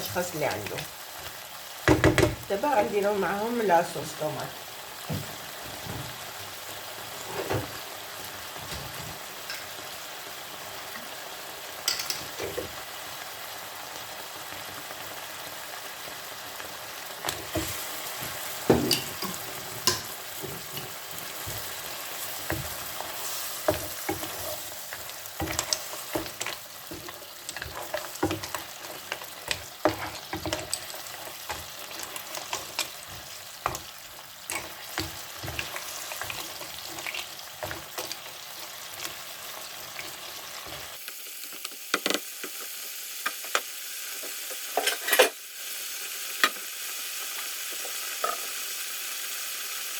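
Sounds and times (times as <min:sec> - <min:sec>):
food sizzling in a frying pan: 0:00.0 - 0:49.9.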